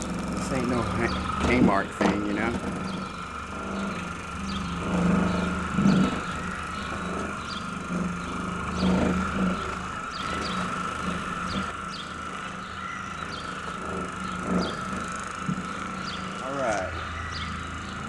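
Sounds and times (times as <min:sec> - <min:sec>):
birds chirping: 0:00.0 - 0:18.0
electric car buffer humming: 0:00.0 - 0:18.0.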